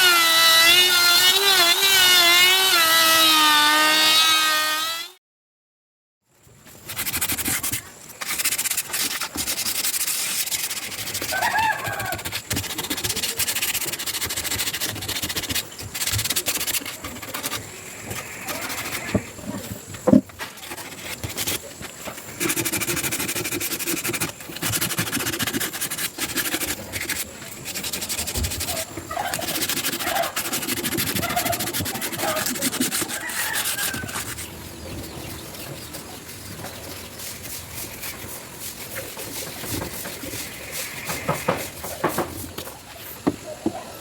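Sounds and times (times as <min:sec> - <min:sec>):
hand sanding wood: 0:00.0 - 0:05.1, 0:06.8 - 0:43.4.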